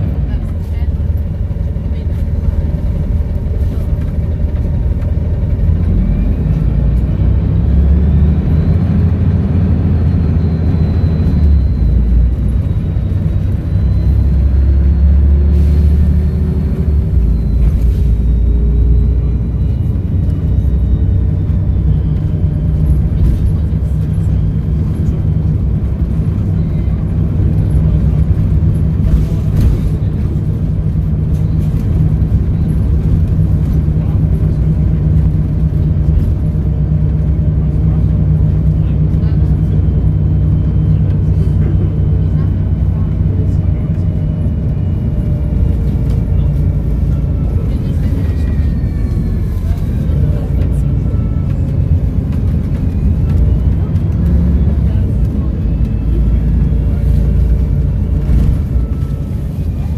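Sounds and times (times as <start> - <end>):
diesel bus engine under load: 0.0 - 59.9.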